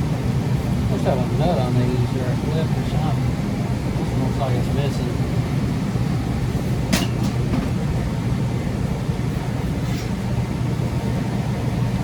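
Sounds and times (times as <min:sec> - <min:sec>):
furnace motors humming: 0:00.0 - 0:12.0.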